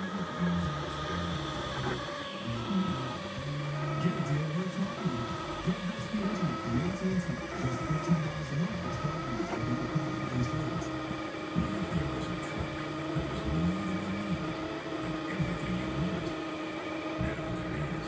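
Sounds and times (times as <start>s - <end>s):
printer humming: 0.0s - 18.0s
stepper motors whining: 0.0s - 18.0s.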